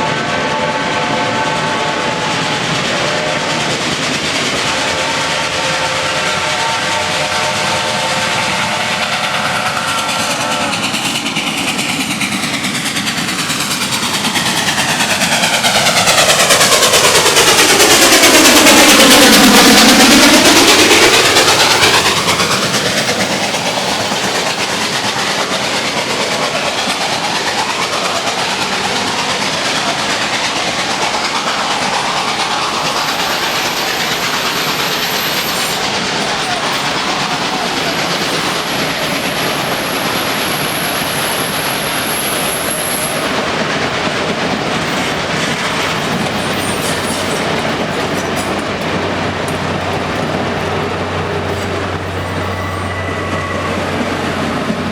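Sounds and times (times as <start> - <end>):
rail clatter: 0.0 - 54.9
steam locomotive passing: 0.0 - 54.9
steam train whistle: 0.0 - 54.9.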